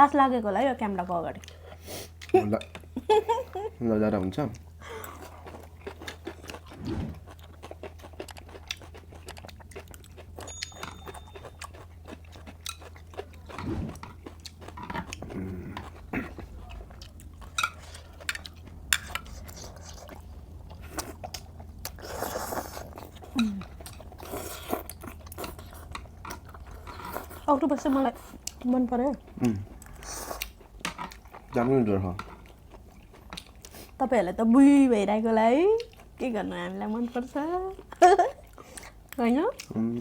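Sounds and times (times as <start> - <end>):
chewing with wet mouth clicks: 4.4 - 34.0, 35.7 - 36.2, 37.7 - 39.8.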